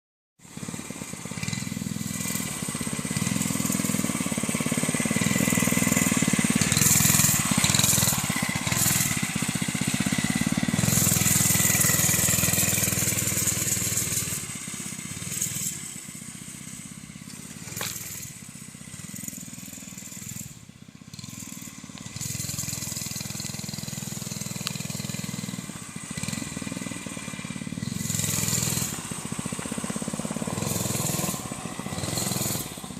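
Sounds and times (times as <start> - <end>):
mini bike engine running: 0.4 - 32.9.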